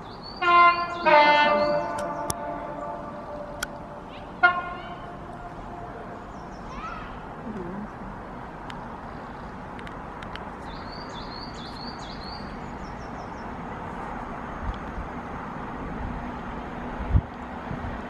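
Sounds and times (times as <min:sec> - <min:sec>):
songbird singing: 0:00.0 - 0:14.8
outdoor background noise: 0:00.0 - 0:18.0.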